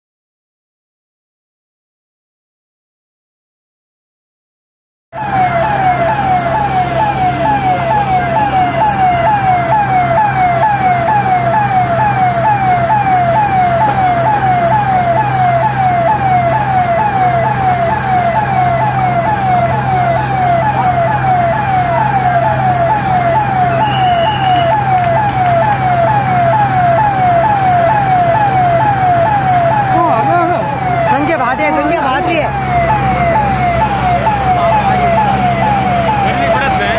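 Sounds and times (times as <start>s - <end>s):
emergency vehicle siren: 5.2s - 36.9s.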